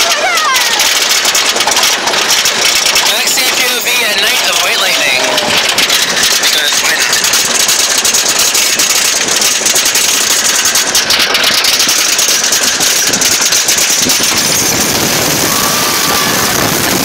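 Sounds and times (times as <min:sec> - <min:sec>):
roller coaster clattering on track: 0:00.0 - 0:17.0
steady rush of noise: 0:00.0 - 0:17.0.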